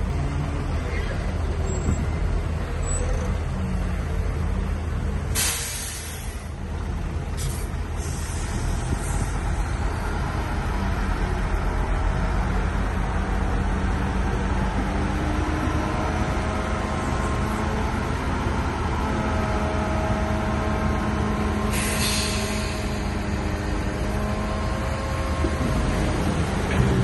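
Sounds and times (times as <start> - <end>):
heavy diesel machine running: 0.0 - 27.0.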